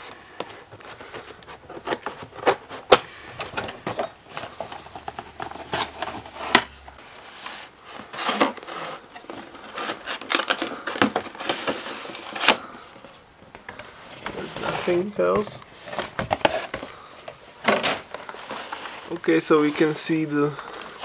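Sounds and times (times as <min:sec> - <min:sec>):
cardboard packaging rustling: 0:00.0 - 0:21.0.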